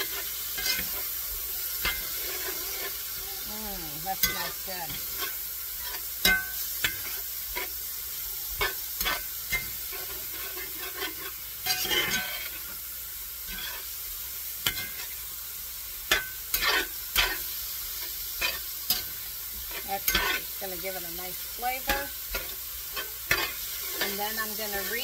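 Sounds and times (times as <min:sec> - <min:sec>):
utensil scraping a pan: 0:00.0 - 0:07.8, 0:08.6 - 0:12.8, 0:13.4 - 0:15.2, 0:16.1 - 0:25.0
meat sizzling in a frying pan: 0:00.0 - 0:25.0.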